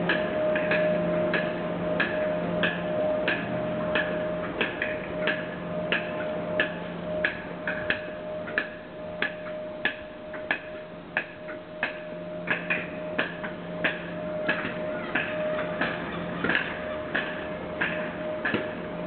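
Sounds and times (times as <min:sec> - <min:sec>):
diesel locomotive idling: 0:00.0 - 0:19.0.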